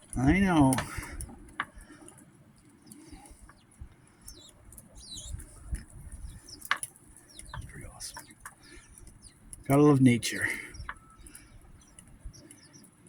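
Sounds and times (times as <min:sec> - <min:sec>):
small birds chirping: 0:00.0 - 0:13.0
wind buffeting microphone: 0:00.0 - 0:13.0.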